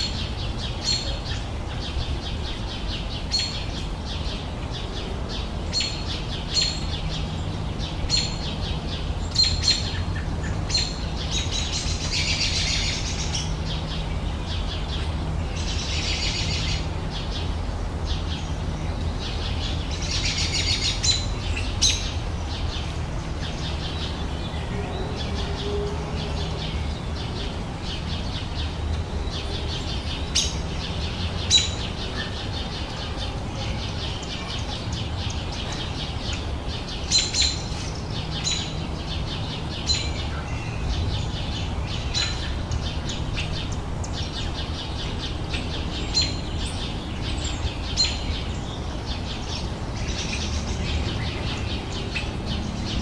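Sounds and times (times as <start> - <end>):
birds chirping: 0.0 - 53.0
birds trilling song: 0.0 - 53.0.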